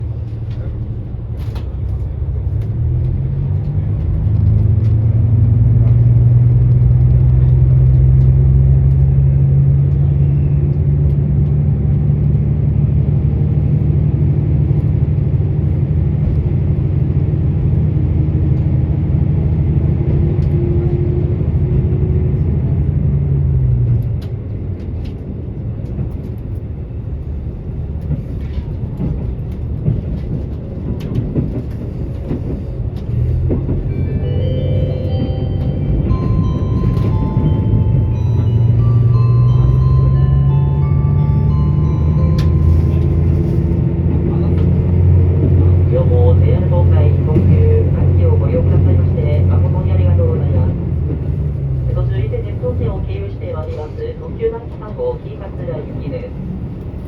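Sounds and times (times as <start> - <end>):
diesel railcar engine running: 0.0 - 57.0
train running noise: 0.0 - 57.0.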